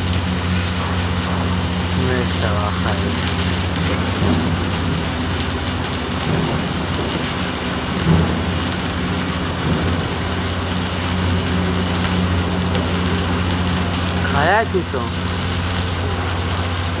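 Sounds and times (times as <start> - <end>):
low electrical hum: 0.0 - 17.0
welding arc crackling: 0.0 - 17.0.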